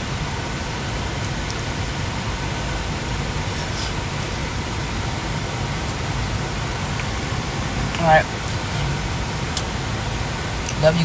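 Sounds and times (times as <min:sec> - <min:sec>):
car air conditioning blower: 0:00.0 - 0:11.0.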